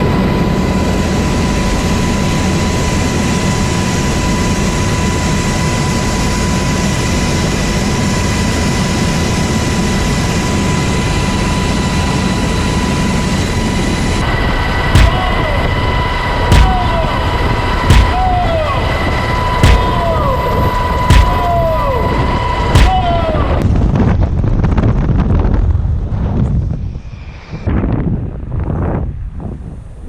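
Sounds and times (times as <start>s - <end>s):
aircraft engine whine: 0.0s - 30.0s.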